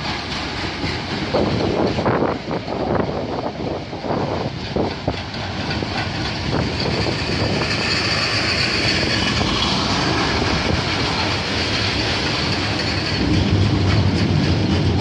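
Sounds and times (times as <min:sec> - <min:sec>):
freight train rumble: 0:00.0 - 0:15.0
train wheels clacking over rail joints: 0:00.0 - 0:15.0.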